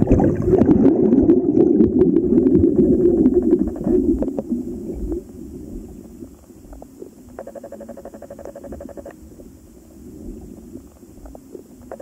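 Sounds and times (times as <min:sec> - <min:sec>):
underwater rumbling and bubbling: 0:00.0 - 0:12.0.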